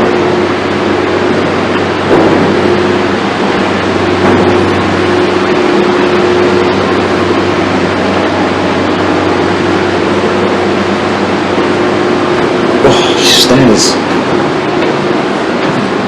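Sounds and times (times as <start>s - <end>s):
low drone: 0.0s - 16.0s
machinery hum and hiss: 0.0s - 16.0s.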